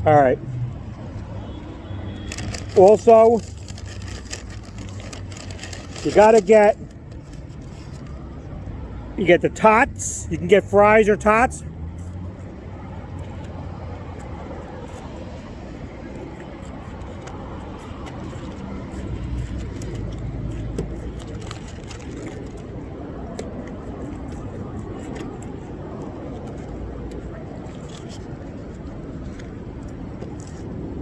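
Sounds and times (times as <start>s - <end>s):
motor vehicle rumbling: 0.0s - 31.0s.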